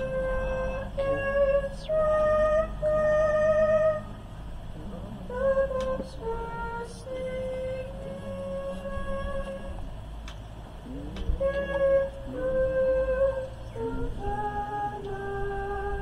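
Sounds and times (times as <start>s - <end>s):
woman singing: 0.0s - 4.1s, 4.8s - 9.9s, 10.8s - 16.0s.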